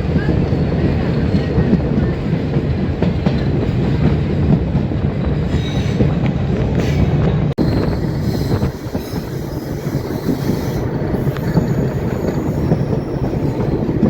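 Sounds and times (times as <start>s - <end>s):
rail clicks: 0.0s - 14.0s
train wheels rumbling: 0.0s - 14.0s.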